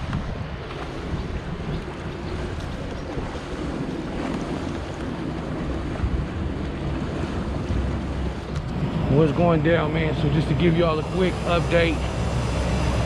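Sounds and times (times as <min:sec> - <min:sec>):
water washing: 0:00.0 - 0:13.0
wind buffeting microphone: 0:00.0 - 0:13.0.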